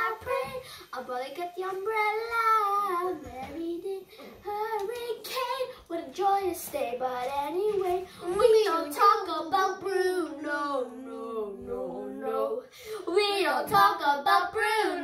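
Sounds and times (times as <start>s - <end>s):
young child singing: 0.0s - 15.0s.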